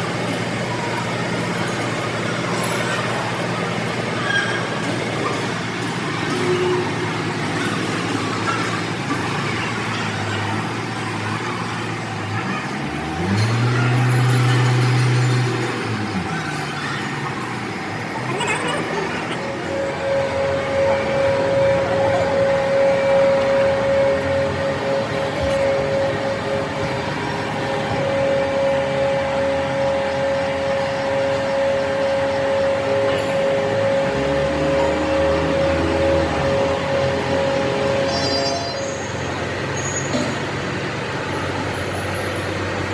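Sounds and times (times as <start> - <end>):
machine humming: 0.0 - 42.9.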